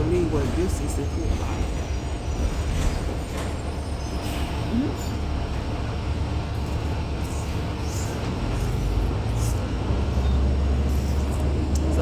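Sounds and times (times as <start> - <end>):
transit vehicle rumble: 0.0 - 12.0.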